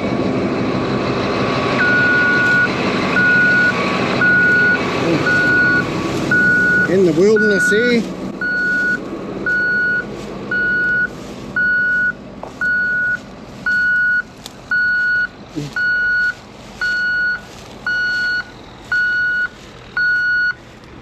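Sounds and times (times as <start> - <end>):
diesel engine running low: 0.0 - 21.0
truck reversing alarm beeping: 1.6 - 20.7.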